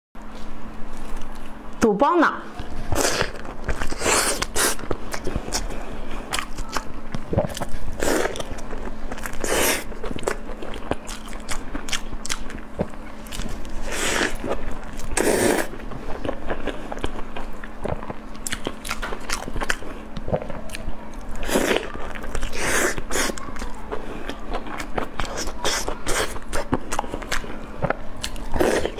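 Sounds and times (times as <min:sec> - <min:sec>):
biting and chewing: 0:02.6 - 0:28.9.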